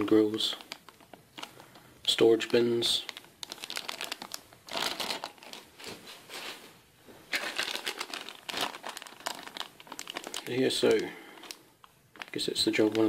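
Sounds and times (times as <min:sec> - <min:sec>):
plastic bags crinkling: 0:00.0 - 0:06.6, 0:07.3 - 0:13.0.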